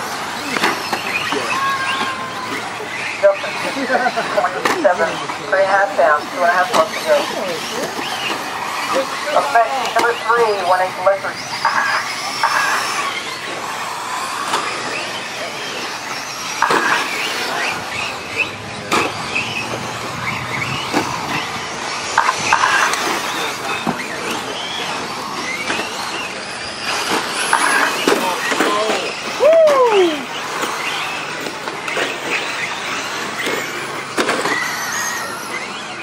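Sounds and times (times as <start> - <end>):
electric rc truck motors whining: 0.0 - 36.0.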